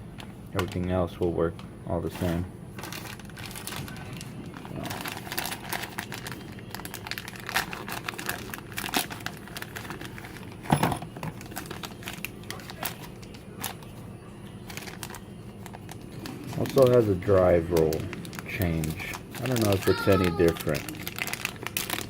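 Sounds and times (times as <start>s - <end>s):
plastic packaging crinkling: 0.0s - 22.0s.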